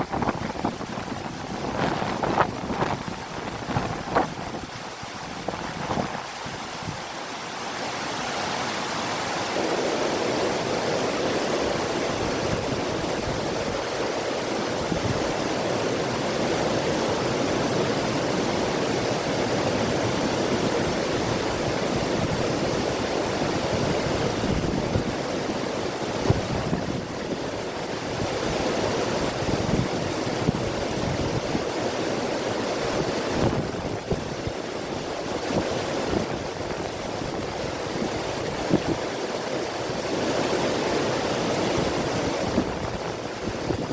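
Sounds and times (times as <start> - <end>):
river water rushing: 0.0 - 43.9
wind blowing: 0.0 - 43.9.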